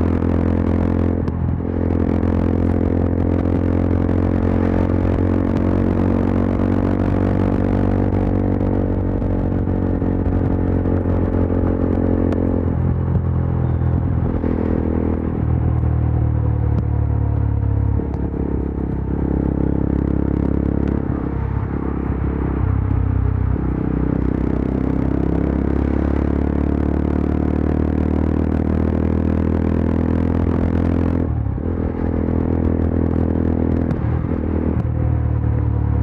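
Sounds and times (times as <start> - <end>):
motorcycle engine and exhaust: 0.0 - 36.0.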